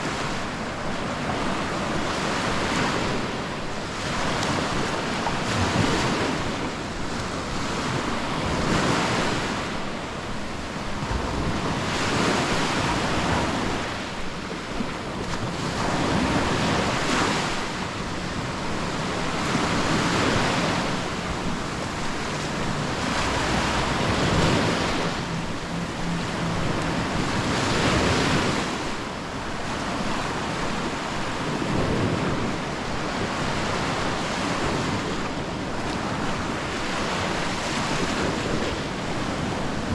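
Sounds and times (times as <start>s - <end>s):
small waves breaking on beach: 0.0s - 39.9s
wind buffeting microphone: 0.0s - 39.9s.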